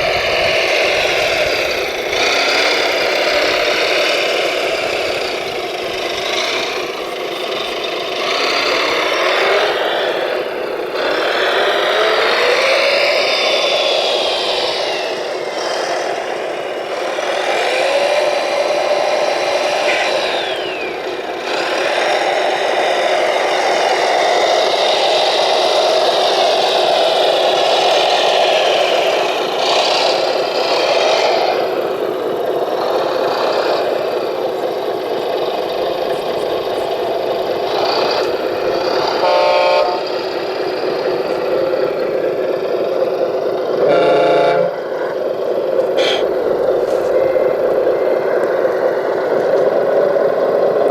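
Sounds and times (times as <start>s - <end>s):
model vehicle motor whirring: 0.0s - 50.9s.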